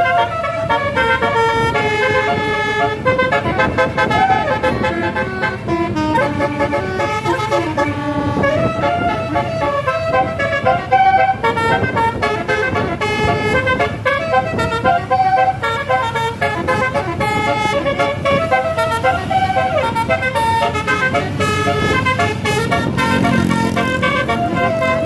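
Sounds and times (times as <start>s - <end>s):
bus engines and traffic rumble: 0.0s - 25.0s
melodic bus horns: 0.0s - 25.0s.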